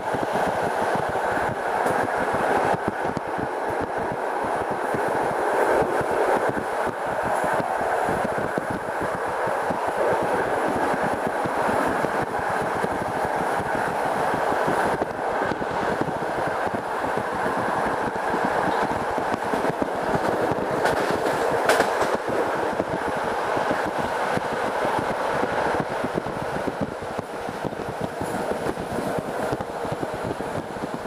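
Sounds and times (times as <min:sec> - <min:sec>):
train wheels rolling on rails: 0:00.0 - 0:31.0.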